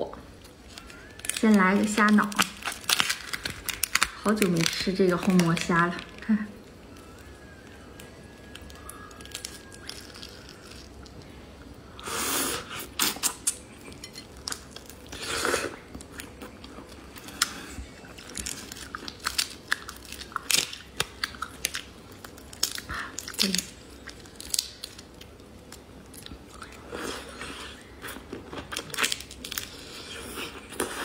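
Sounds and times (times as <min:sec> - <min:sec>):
wet chewing and crunching: 0:00.4 - 0:11.3, 0:12.8 - 0:31.0.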